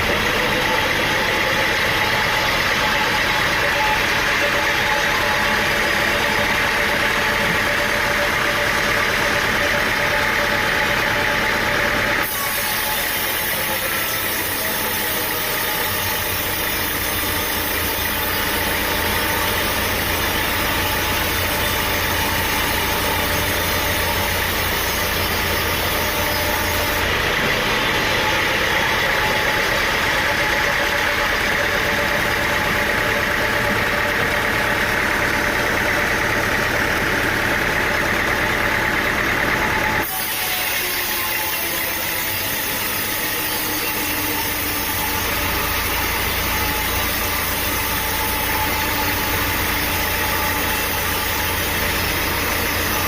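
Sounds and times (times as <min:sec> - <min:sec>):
engine running: 0:00.0 - 0:53.0
machinery noise: 0:00.0 - 0:53.0.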